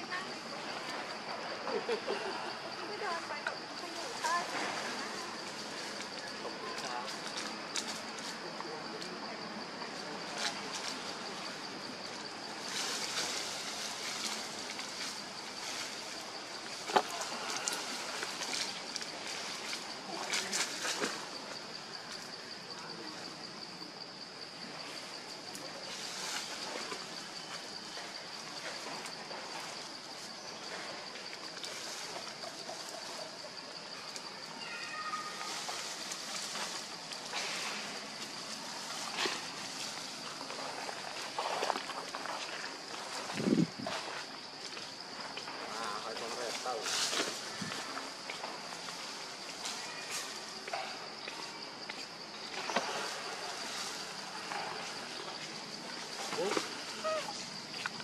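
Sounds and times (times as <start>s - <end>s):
leaves and branches rustling: 0.0s - 58.0s.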